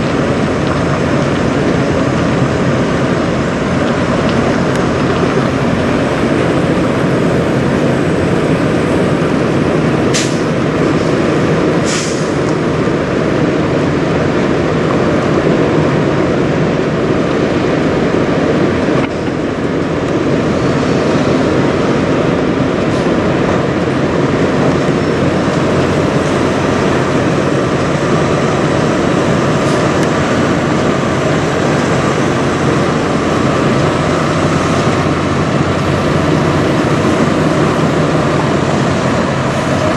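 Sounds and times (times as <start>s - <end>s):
diesel truck engines rumbling: 0.0s - 39.9s.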